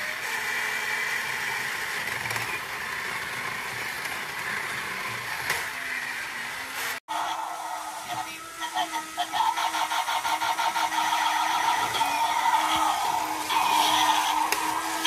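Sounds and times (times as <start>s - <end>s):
toy robot motor whirring: 0.0s - 15.0s.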